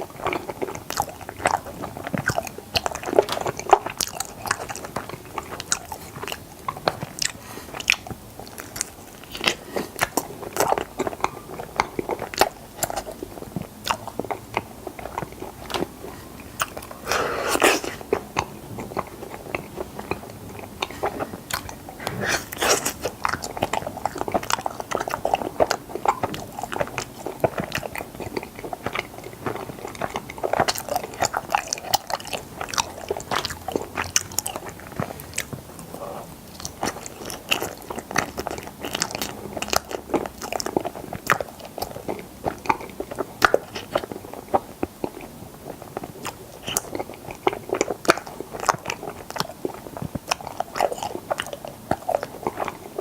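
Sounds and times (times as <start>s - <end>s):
close chewing and mouth clicks: 0.0s - 53.0s.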